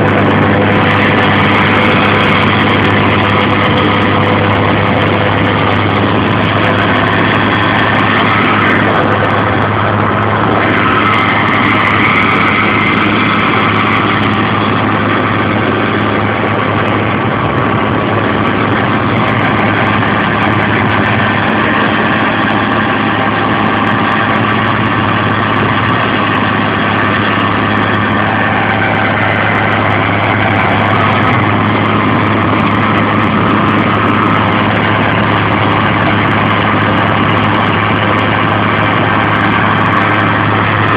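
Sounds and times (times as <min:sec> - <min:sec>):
machine churning through soil: 0:00.0 - 0:40.9
tractor engine running under load: 0:00.0 - 0:40.9.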